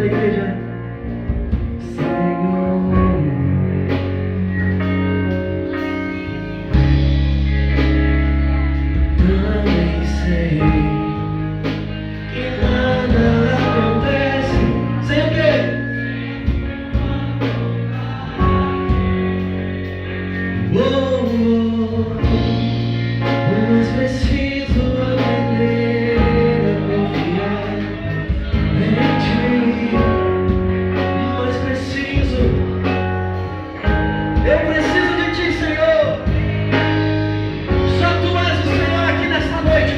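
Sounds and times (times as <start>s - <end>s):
person singing: 0.0s - 4.5s, 8.8s - 39.9s
band playing gospel song: 0.0s - 39.9s.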